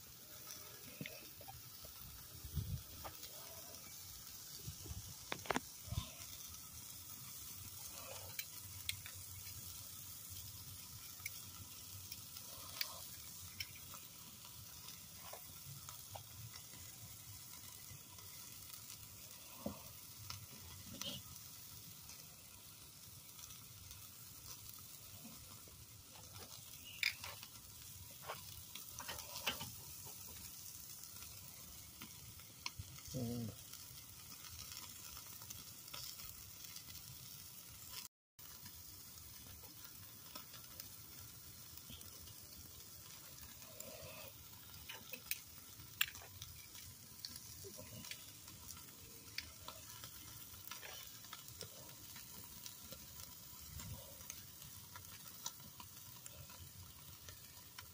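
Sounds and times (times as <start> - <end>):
steaks sizzling on a grill: 0.0 - 57.9.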